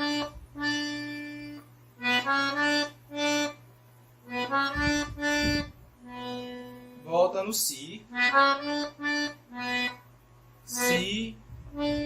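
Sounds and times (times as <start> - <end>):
accordion playing slow melody: 0.0 - 7.3, 8.0 - 12.0.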